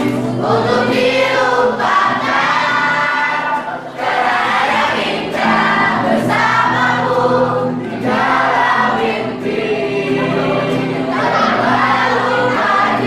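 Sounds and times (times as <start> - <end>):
young voices singing together: 0.0 - 13.0.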